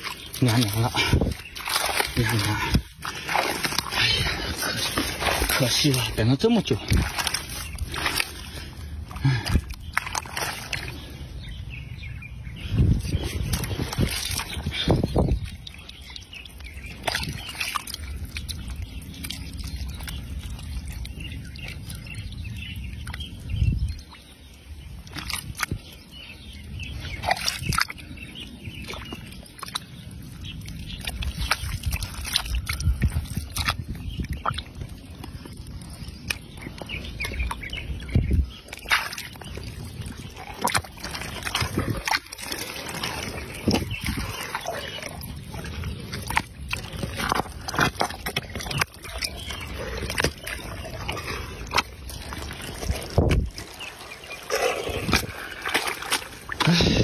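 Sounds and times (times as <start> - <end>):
water slaps and splashes: 0.0 - 11.8, 12.6 - 57.0
hand squelching in wet mud: 0.0 - 57.0.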